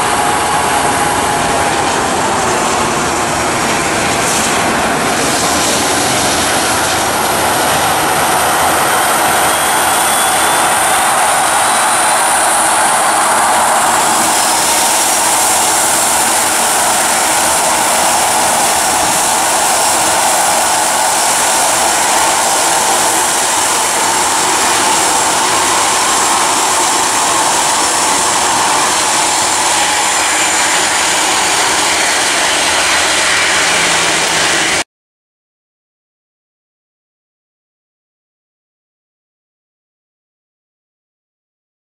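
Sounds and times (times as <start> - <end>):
jet engine noise: 0.0 - 34.8
high jet whine: 0.0 - 34.9.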